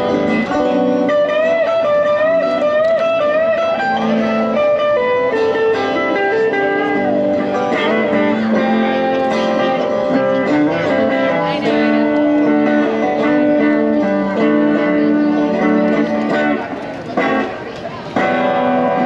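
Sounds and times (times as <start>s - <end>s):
guitar melody with slides: 0.0s - 19.0s.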